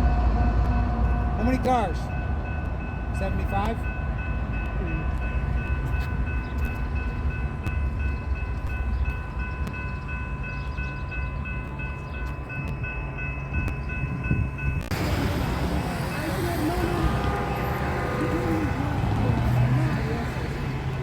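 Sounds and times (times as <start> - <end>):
grade crossing bells ringing: 0.0 - 21.0
train rumbling past: 0.0 - 21.0.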